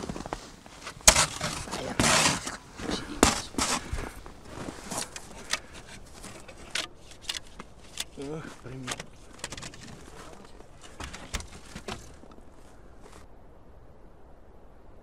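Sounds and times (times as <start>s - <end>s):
footsteps crunching in snow: 0.0s - 13.3s.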